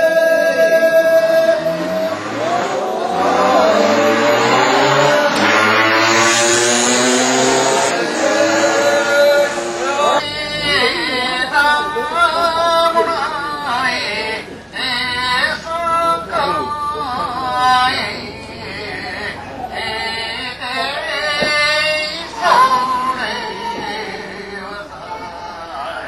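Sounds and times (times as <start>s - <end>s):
man chanting through a megaphone: 0.0s - 5.8s, 7.8s - 26.0s
held musical tones: 0.4s - 25.6s.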